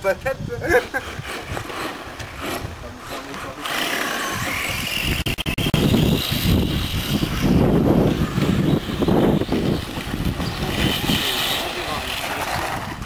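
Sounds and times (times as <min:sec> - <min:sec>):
wheels rumbling over gravel: 0:00.9 - 0:05.3, 0:05.9 - 0:13.0
toy truck motor whining: 0:00.9 - 0:13.0.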